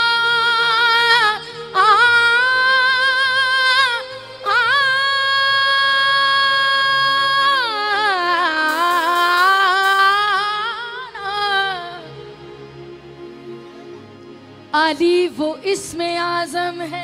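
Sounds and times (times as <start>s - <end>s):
woman singing devotional song: 0.0s - 12.6s, 14.7s - 17.0s.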